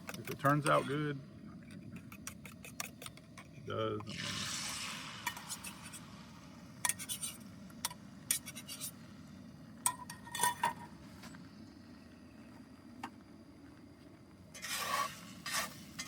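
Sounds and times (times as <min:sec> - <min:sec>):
faint low background hum: 0:00.0 - 0:16.0.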